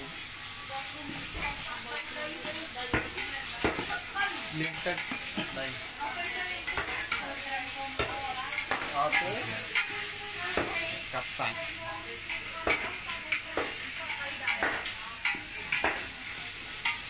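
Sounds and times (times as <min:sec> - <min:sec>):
food sizzling in a pot: 0:00.0 - 0:17.0
spatula stirring and scraping: 0:01.0 - 0:17.0.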